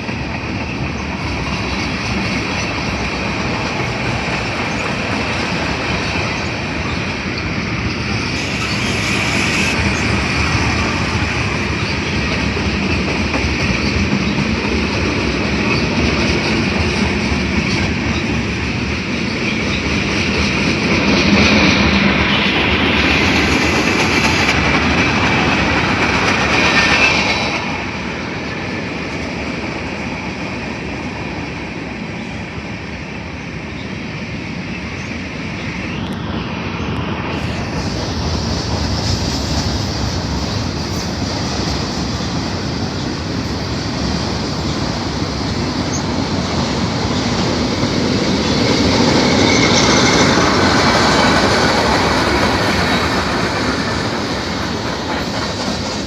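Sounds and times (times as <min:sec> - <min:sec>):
train wheels clattering on track: 0:00.0 - 0:56.0.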